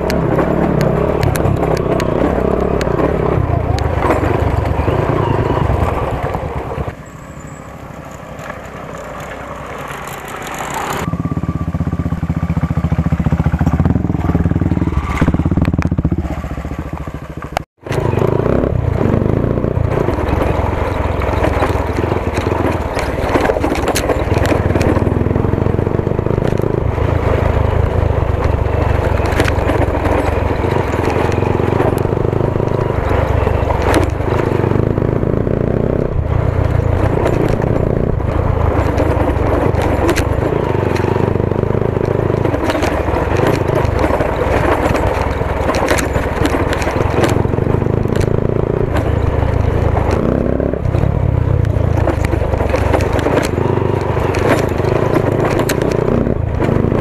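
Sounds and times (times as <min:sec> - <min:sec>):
clattering and scraping over rough ground: 0:00.0 - 0:11.2, 0:12.0 - 0:57.0
motorcycle engine running: 0:00.0 - 0:57.0.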